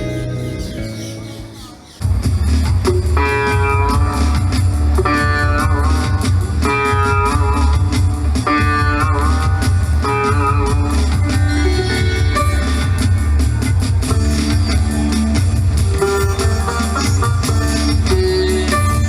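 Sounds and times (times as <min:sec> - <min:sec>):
guitar-led music with heavy bass: 0:00.0 - 0:19.0.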